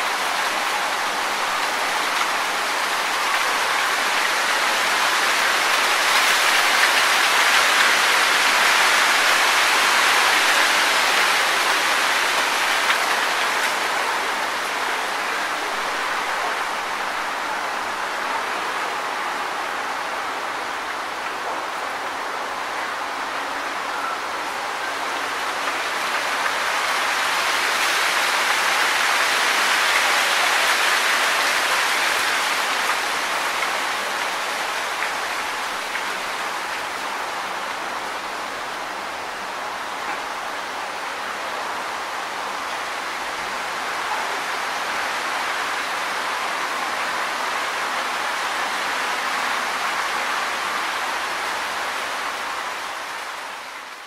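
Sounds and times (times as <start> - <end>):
wind rustling leaves: 0.0 - 54.0.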